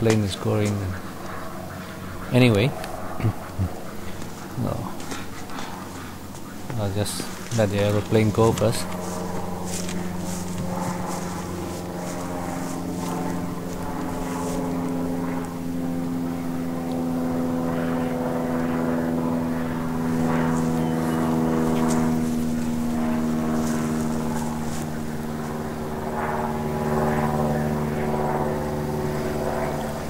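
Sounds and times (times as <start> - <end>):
aeroplane engine drone: 0.0 - 30.0.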